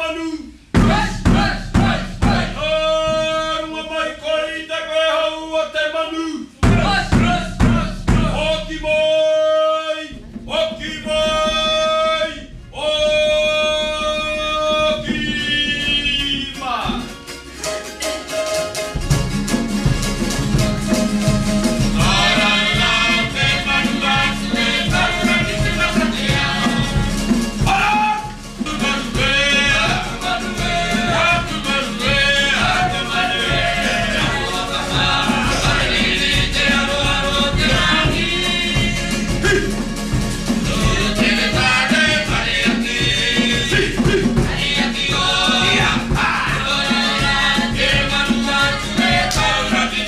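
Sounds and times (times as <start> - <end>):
quick drum beat: 0.7 - 3.6, 6.6 - 9.0, 10.1 - 50.0
strummed ukuleles and guitars: 0.8 - 3.6, 6.6 - 8.8, 10.2 - 50.0
voices singing along: 0.8 - 5.6, 6.6 - 17.1, 21.6 - 50.0.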